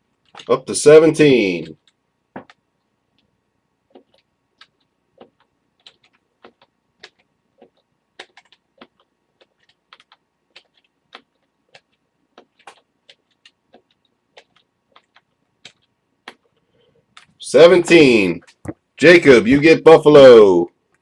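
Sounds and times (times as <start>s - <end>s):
computer keys clicking: 0.1s - 3.3s, 3.9s - 19.2s.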